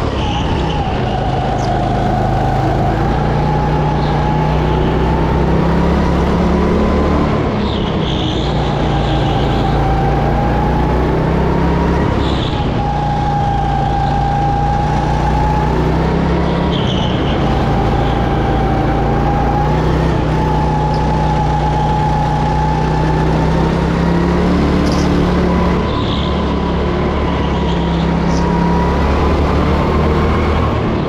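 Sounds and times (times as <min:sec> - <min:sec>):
go-kart engine revving: 0:00.0 - 0:31.0.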